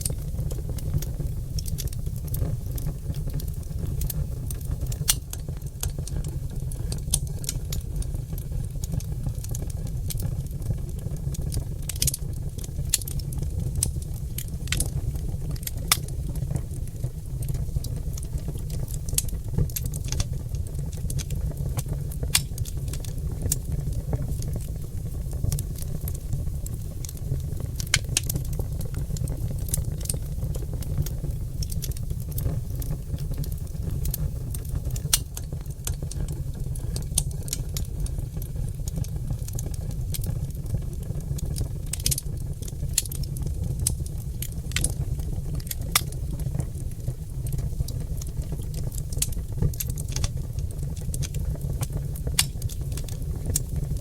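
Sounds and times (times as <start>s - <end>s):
log fire crackling and popping: 0.0s - 54.0s
low fire rumble: 0.0s - 54.0s.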